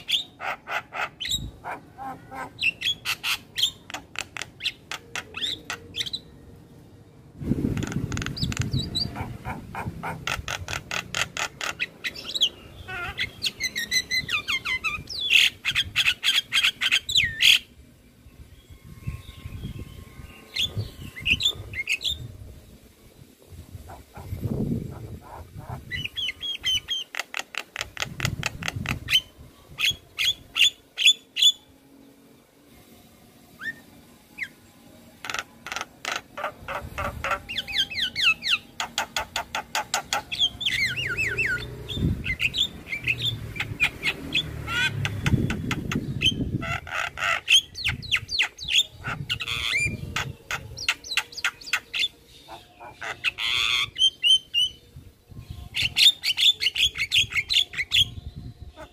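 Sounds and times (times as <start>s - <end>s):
bird singing chattering song: 0.0s - 6.4s, 7.6s - 17.7s, 18.4s - 22.3s, 23.8s - 31.6s, 35.2s - 58.9s.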